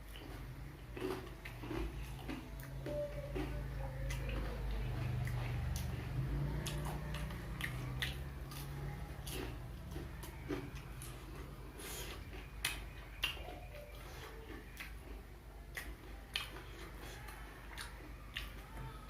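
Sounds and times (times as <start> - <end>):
person chewing crunchy snacks: 0.0 - 19.0.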